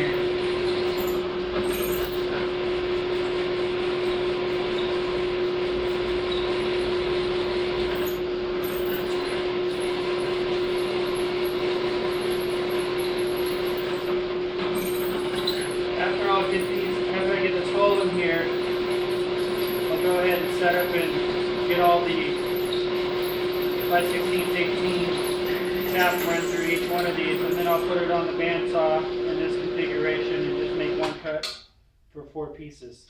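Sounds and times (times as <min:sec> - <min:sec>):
drill press drilling steel: 0:00.0 - 0:31.3.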